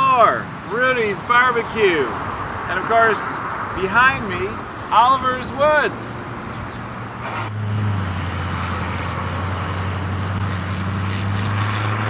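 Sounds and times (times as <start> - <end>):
light traffic: 0.0 - 12.0
road noise: 0.0 - 12.0
vehicle engine drone: 0.0 - 12.0.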